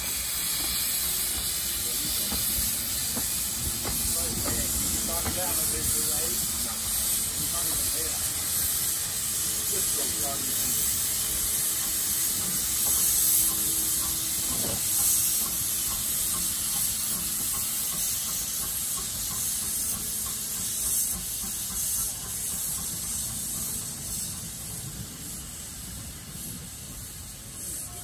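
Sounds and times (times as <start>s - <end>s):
steam hissing from locomotive: 0.0s - 28.0s.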